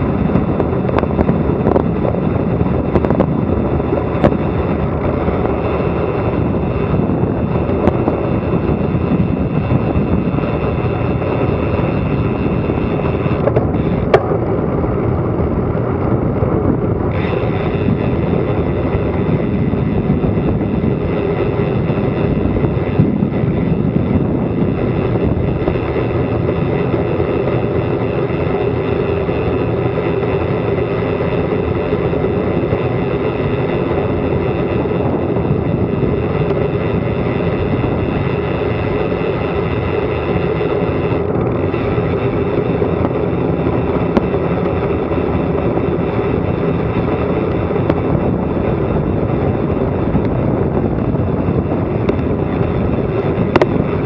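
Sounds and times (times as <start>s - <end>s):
wind rumbling over microphone: 0.0s - 54.0s.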